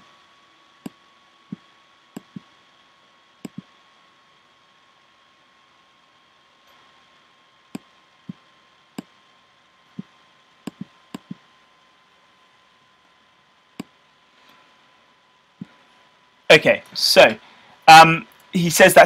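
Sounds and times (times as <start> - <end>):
faint electrical whine: 0.0 - 19.0.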